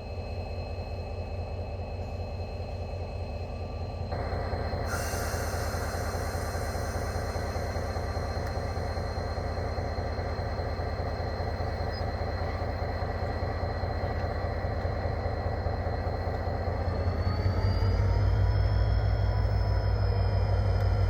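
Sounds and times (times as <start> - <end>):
locomotive engine rumbling: 2.7 - 21.0.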